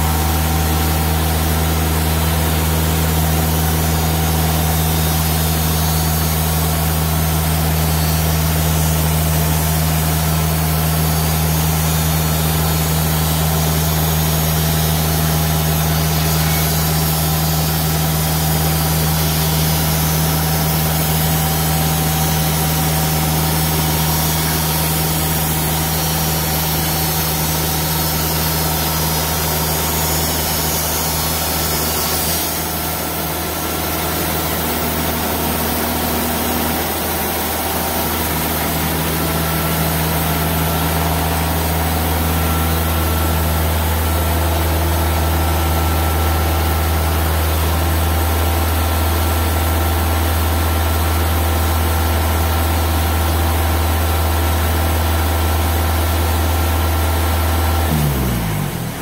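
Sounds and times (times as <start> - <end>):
sawmill cutting log: 0.0 - 59.0.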